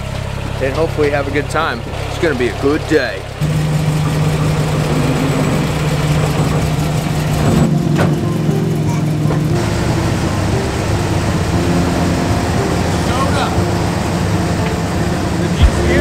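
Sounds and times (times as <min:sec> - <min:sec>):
engines idling: 0:00.0 - 0:16.0.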